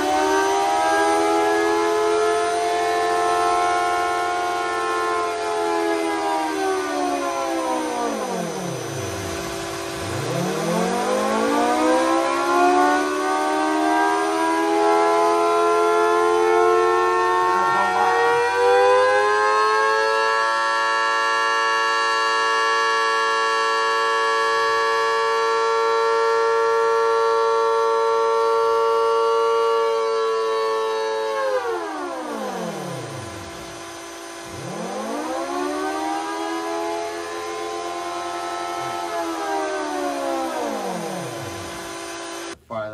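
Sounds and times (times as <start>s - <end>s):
rotating siren wailing: 0.0s - 42.6s.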